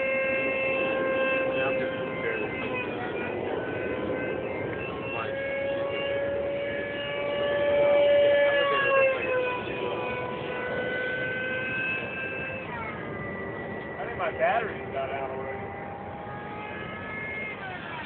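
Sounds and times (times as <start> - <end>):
model airplane motor whine: 0.0 - 18.0.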